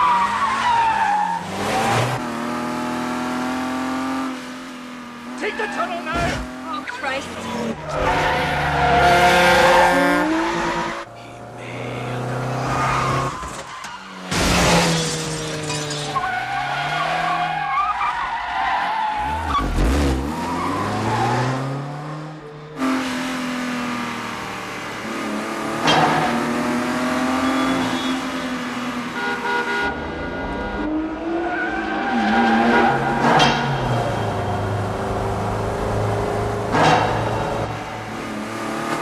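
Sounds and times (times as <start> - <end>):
car engines revving: 0.0 - 39.0
cars passing by: 0.0 - 39.0.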